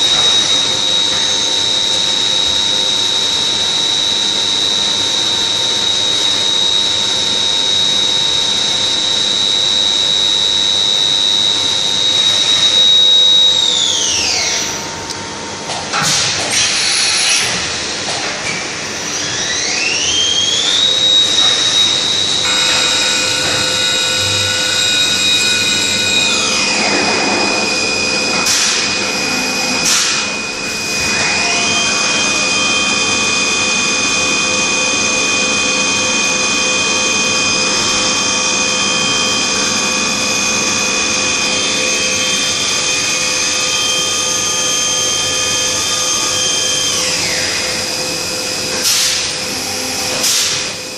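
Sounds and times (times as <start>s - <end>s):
machine spindle whine: 0.0s - 50.9s.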